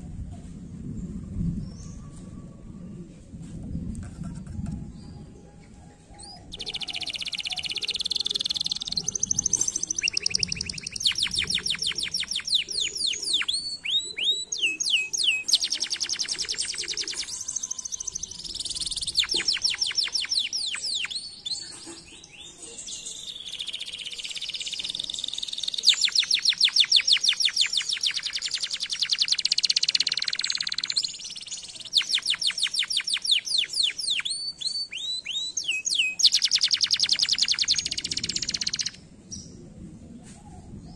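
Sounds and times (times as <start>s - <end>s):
canary singing trills: 5.0s - 39.0s.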